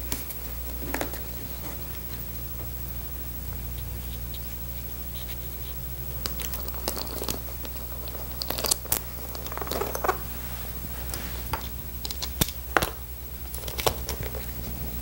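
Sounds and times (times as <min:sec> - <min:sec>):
steady low hum: 0:00.0 - 0:15.0
vinyl crinkling: 0:00.0 - 0:15.0.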